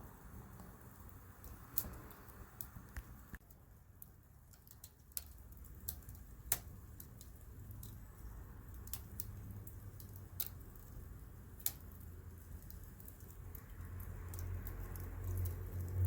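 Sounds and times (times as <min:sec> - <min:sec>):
low rumble of burning: 0:00.0 - 0:16.0
campfire pops and snaps: 0:00.3 - 0:16.0.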